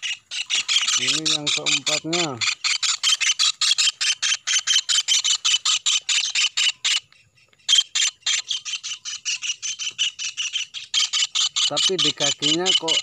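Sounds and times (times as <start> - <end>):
kingfisher calling harsh notes: 0.0 - 7.1, 7.7 - 13.0.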